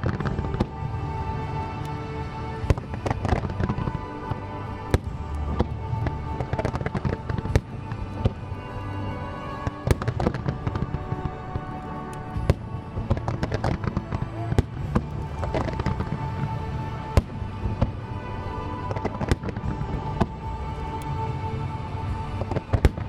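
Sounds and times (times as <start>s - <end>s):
fireworks bursting: 0.0s - 8.8s, 9.4s - 23.0s
music: 0.0s - 23.0s.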